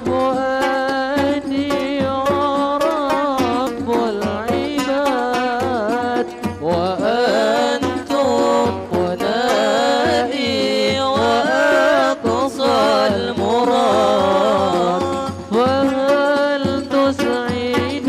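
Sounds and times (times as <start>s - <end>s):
frame drums beating: 0.0s - 18.0s
person singing ornamented melody: 0.0s - 18.0s.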